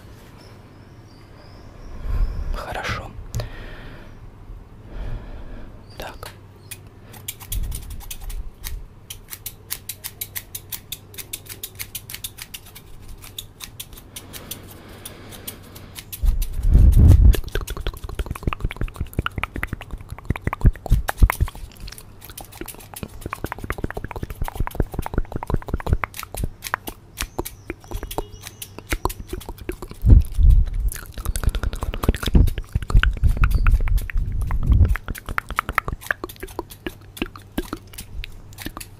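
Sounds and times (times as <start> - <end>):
scissors snipping: 6.7 - 38.9.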